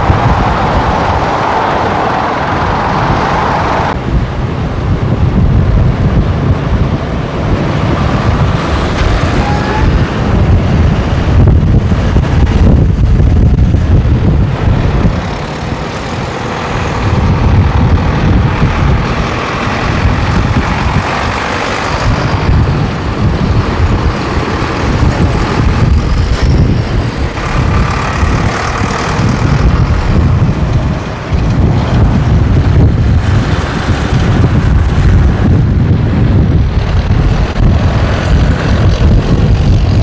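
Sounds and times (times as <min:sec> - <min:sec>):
diesel tractor engines passing: 0:00.0 - 0:40.0.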